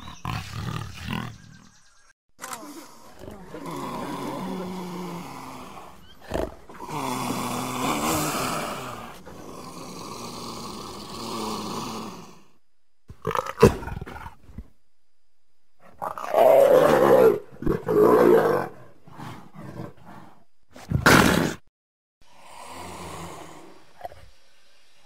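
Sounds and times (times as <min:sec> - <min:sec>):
leopards growling and snarling: 0:00.0 - 0:01.8, 0:02.7 - 0:14.6, 0:15.8 - 0:21.7, 0:22.4 - 0:24.3.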